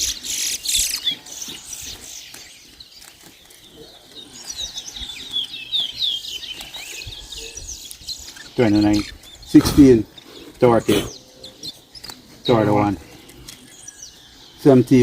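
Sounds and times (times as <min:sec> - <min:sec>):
finches singing: 0:00.0 - 0:15.0.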